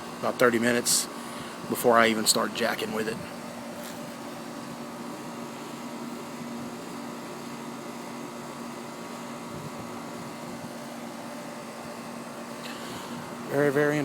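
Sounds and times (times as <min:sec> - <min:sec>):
fan hiss: 0:00.0 - 0:14.0
heat pump compressor hum: 0:00.0 - 0:14.0.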